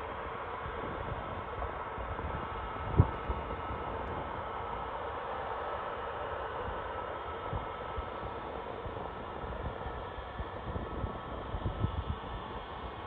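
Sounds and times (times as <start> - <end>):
distant jet engine rush: 0.0 - 13.0.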